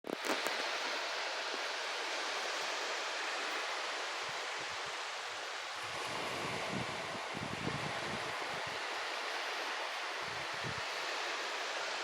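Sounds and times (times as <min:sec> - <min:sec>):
surf washing on beach: 0:00.1 - 0:12.0.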